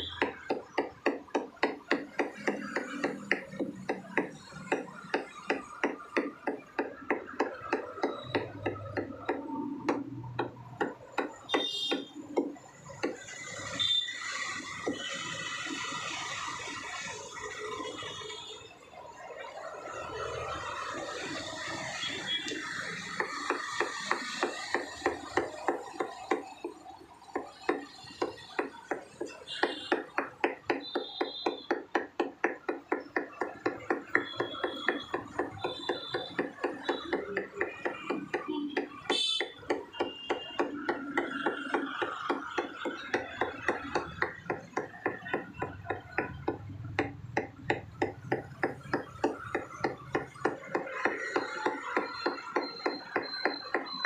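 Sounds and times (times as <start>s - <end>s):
cleaver chopping on wooden block: 0.0s - 15.1s, 22.5s - 54.0s.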